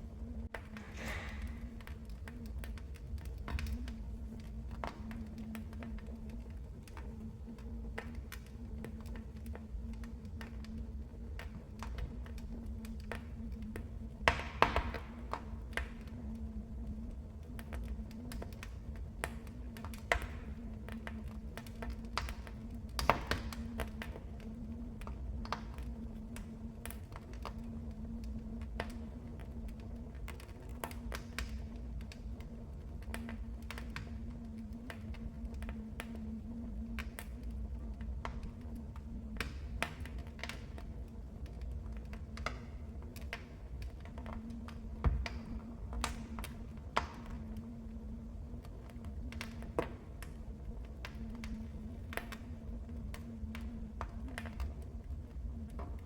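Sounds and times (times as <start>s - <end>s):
low rumble of fire: 0.0s - 56.0s
wood fire crackling: 0.0s - 56.0s.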